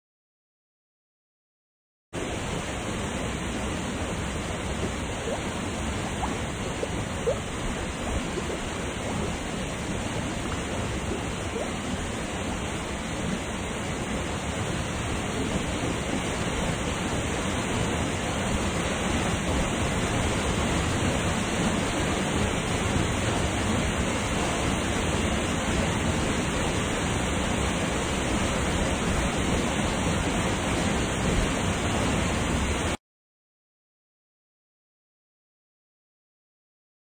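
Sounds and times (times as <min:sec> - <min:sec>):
waterfall pouring into pool: 0:02.2 - 0:33.0.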